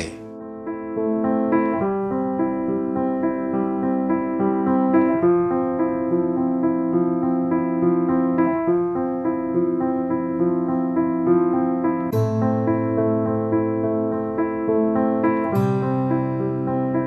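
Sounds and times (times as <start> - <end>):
piano repeated notes: 0.0 - 17.0.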